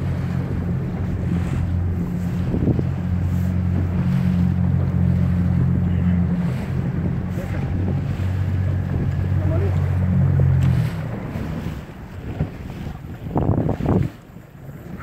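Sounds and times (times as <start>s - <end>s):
outboard motor droning: 0.0s - 15.0s
water rushing along hull: 0.0s - 15.0s
wind on microphone: 0.0s - 15.0s.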